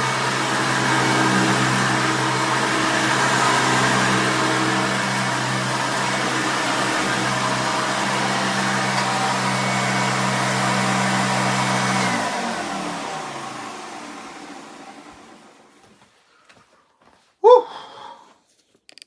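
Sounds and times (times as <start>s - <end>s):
vacuum motor winding down: 0.0s - 15.8s
vacuum cleaner running: 0.0s - 16.0s.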